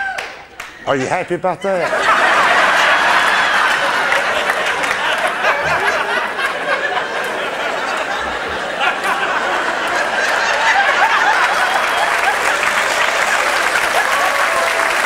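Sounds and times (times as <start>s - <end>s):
audience laughing: 0.9s - 15.0s.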